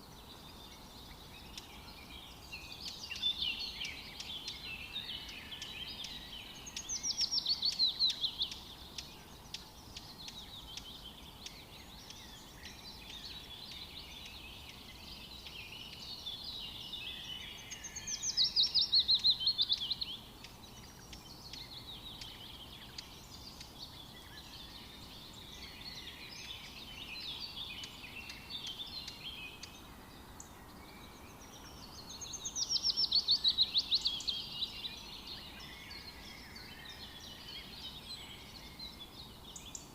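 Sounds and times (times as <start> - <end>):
background hiss: 0.0 - 39.9
bird chirps and calls: 0.0 - 39.9.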